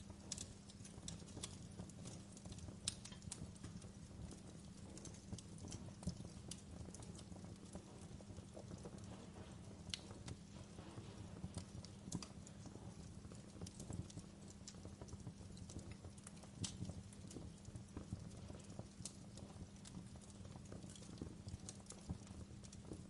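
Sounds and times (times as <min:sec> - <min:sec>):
low rumble of burning: 0:00.0 - 0:23.0
wood fire crackling: 0:00.0 - 0:23.0.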